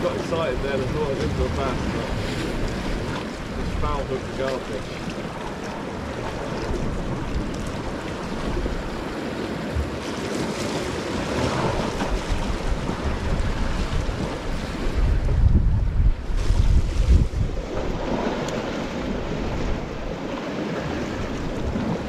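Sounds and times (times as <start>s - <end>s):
sea waves washing against rocks: 0.0s - 22.0s
wind buffeting microphone: 0.0s - 22.0s.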